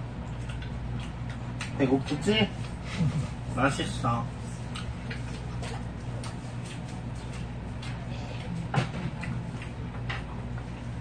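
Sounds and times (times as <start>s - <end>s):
chewing: 0.0s - 3.5s, 4.4s - 11.0s
steady low hum: 0.0s - 11.0s.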